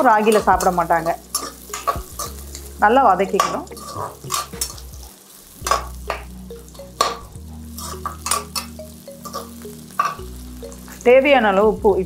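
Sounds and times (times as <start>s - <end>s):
metal ladle scraping a pan: 0.0s - 11.0s
frying sizzle: 0.0s - 12.0s.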